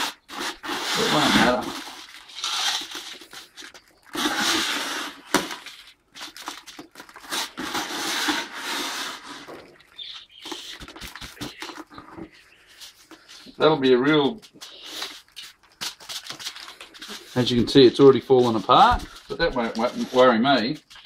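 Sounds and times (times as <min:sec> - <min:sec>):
gritty mix scraping: 0:00.0 - 0:21.0.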